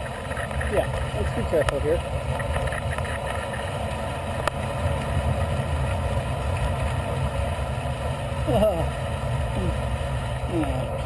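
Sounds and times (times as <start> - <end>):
bicycle road noise: 0.0 - 11.0.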